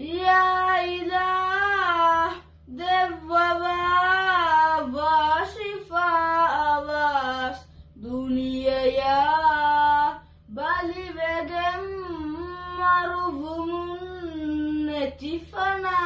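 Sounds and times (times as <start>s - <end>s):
boy singing unaccompanied: 0.0s - 16.0s.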